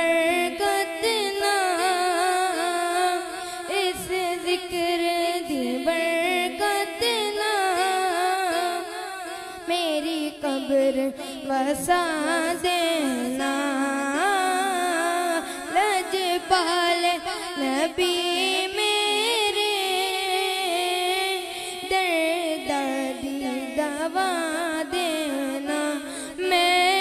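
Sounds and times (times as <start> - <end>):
boy singing into a microphone: 0.0 - 27.0.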